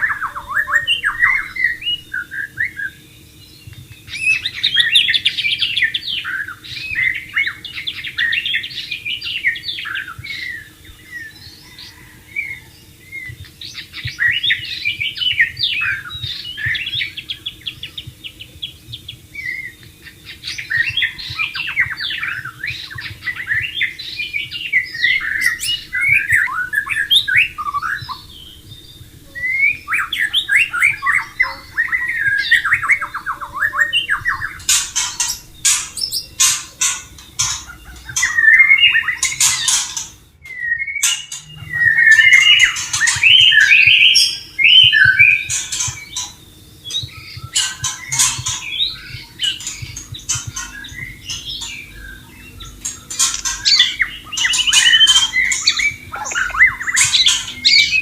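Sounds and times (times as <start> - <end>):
bird singing whistled phrases: 0.0 - 18.8, 19.4 - 34.7, 37.5 - 39.8, 40.4 - 58.0
faint steady hum: 0.0 - 58.0
sharp clicking bird notes: 3.6 - 58.0.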